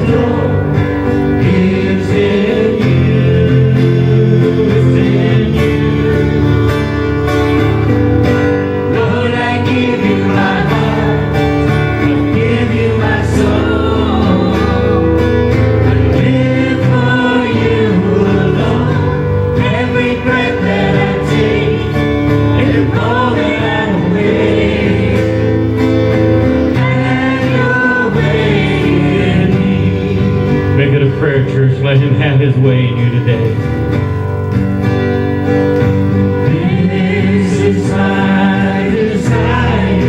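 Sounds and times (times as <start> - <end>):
guitar accompaniment: 0.0 - 40.0
voices singing worship music: 0.0 - 40.0.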